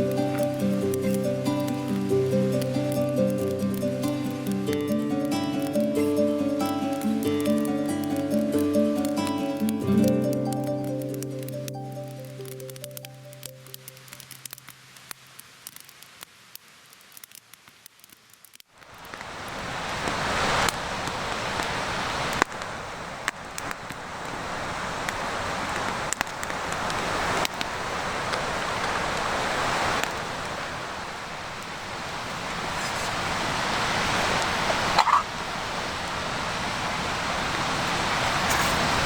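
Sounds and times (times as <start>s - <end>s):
loud steady hiss: 0.0s - 18.0s, 18.8s - 39.0s
campfire crackling and popping: 0.0s - 36.2s, 37.4s - 39.0s.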